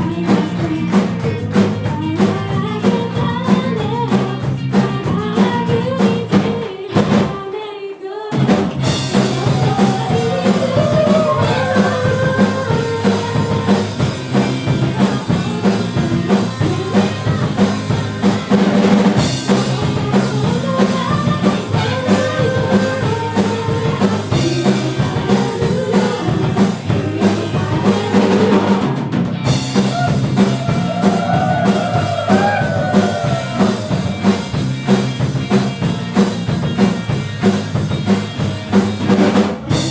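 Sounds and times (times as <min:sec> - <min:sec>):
live rock band playing: 0:00.0 - 0:07.4, 0:08.3 - 0:39.9
singer singing: 0:00.0 - 0:29.2, 0:29.8 - 0:34.3.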